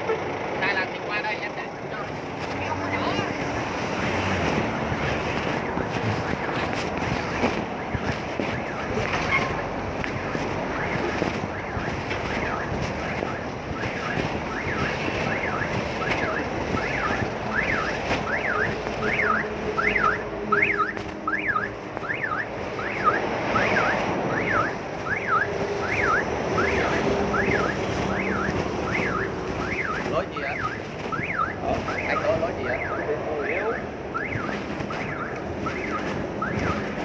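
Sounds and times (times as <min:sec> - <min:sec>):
traffic rumble: 0:00.0 - 0:37.0
wind: 0:00.0 - 0:37.0
electronic siren alarm tone: 0:02.7 - 0:37.0.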